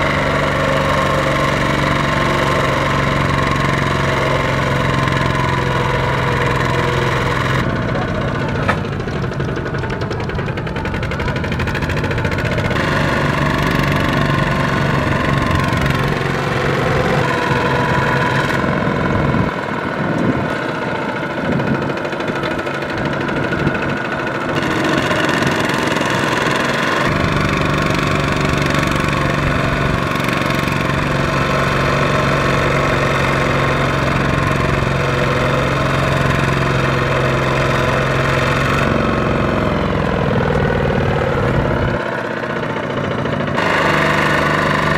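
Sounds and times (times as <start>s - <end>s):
diesel engines chugging: 0.0s - 44.9s.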